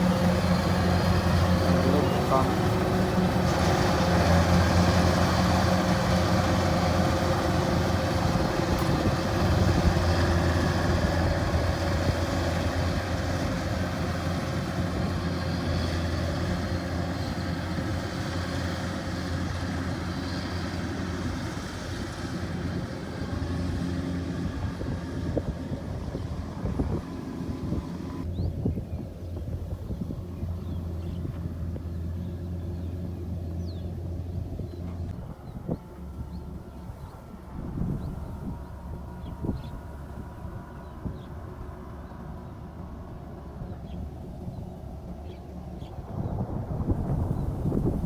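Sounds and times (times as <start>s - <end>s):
combine harvester engine running: 0.0s - 48.0s.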